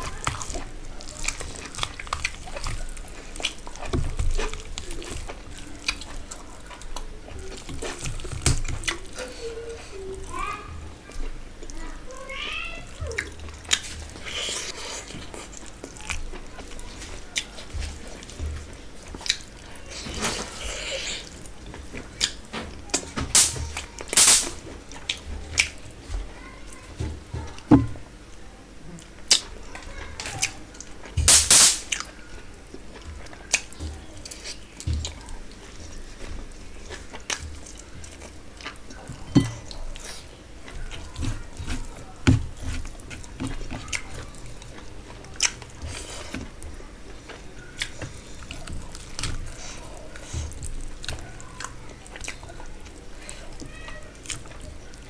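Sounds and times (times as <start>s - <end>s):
fingers squelching food: 0.0s - 28.1s, 29.0s - 55.0s
person chewing and eating: 0.0s - 55.0s.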